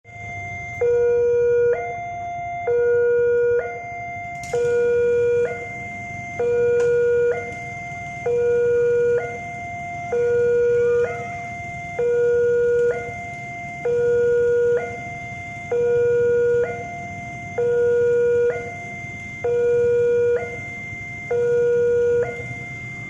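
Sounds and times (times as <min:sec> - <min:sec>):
level crossing two-tone alarm: 0:00.1 - 0:23.0.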